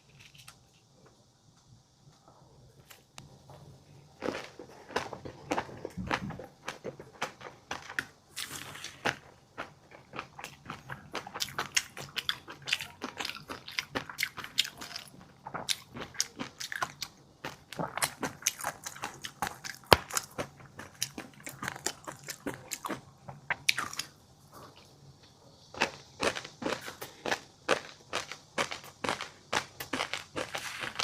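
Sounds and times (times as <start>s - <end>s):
person chewing crunchy food: 4.1s - 31.0s.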